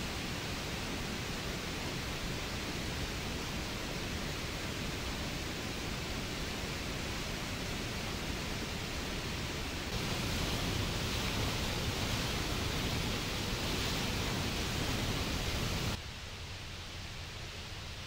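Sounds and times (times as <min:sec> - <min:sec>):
waterfall and rapids rushing: 0:00.0 - 0:18.0.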